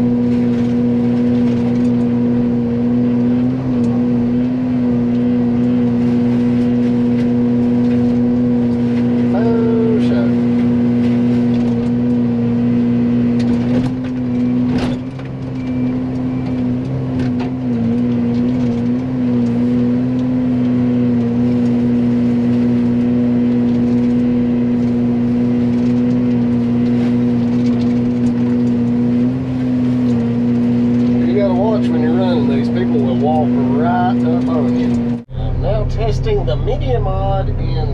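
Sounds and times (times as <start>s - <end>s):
mulcher droning whine: 0.0s - 37.9s.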